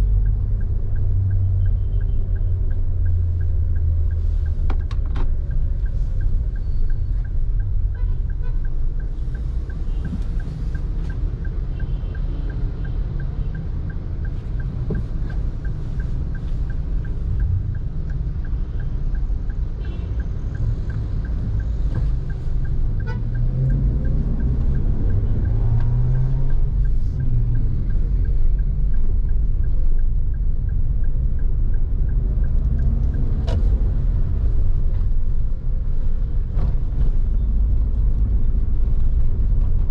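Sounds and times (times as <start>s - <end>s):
engine and tyres rumble: 0.0s - 39.9s
vehicles passing: 0.0s - 39.9s.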